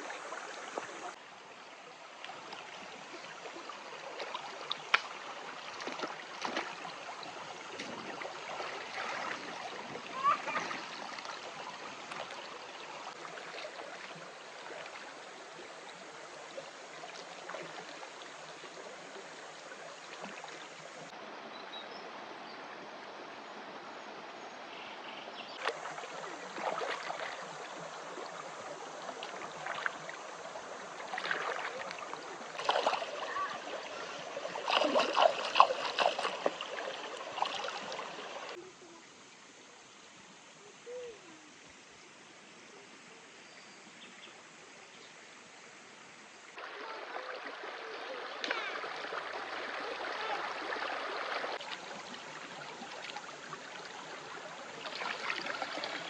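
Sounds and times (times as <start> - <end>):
outdoor ambience: 0.0 - 56.0
running water: 0.0 - 56.0.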